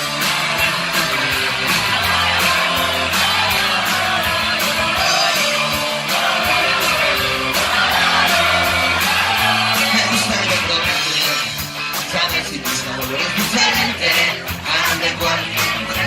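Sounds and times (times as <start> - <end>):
bass notes: 0.0 - 16.0
guitar strumming: 0.0 - 16.0
steady drum beat: 0.0 - 16.0.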